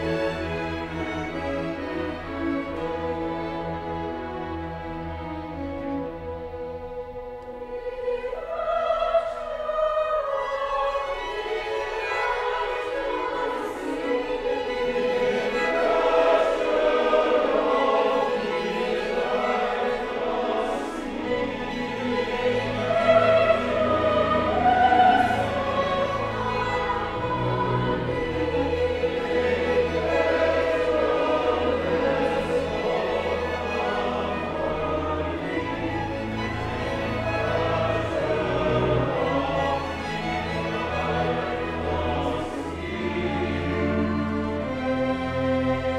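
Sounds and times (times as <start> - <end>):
choir singing: 0.0 - 45.9
string orchestra: 0.0 - 45.9.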